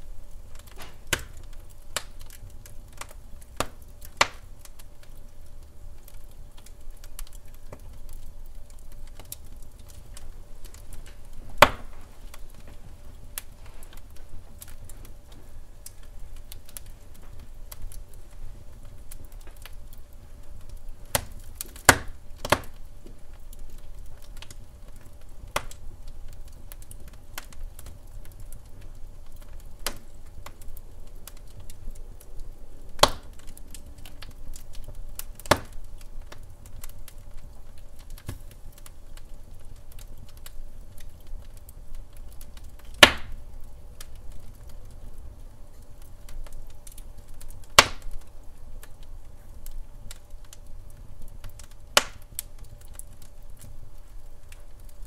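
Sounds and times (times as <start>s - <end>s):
fire pops: 0.0s - 55.0s
wood fire crackling: 0.0s - 55.0s.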